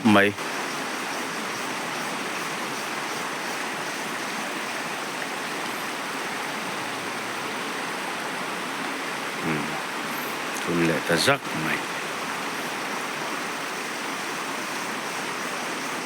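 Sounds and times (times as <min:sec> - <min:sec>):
rushing river water: 0:00.0 - 0:16.0.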